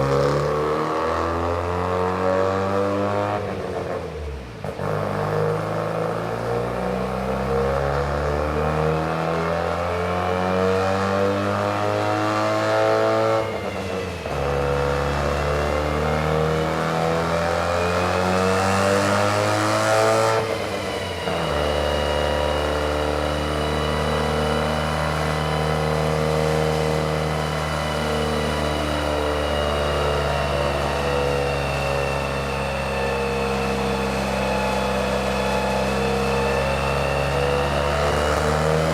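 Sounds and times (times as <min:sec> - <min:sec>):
turbocharged car engine revving: 0:00.0 - 0:38.9.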